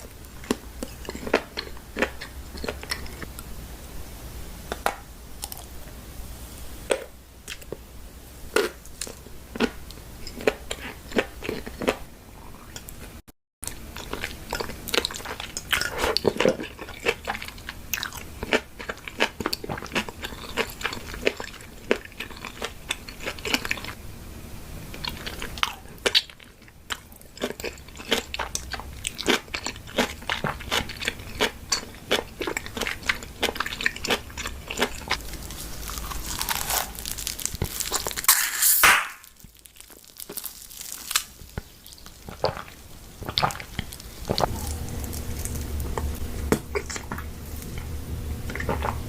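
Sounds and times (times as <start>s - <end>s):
person chewing crunchy food: 0.0s - 3.5s, 5.4s - 5.8s, 8.5s - 24.0s, 24.9s - 49.0s.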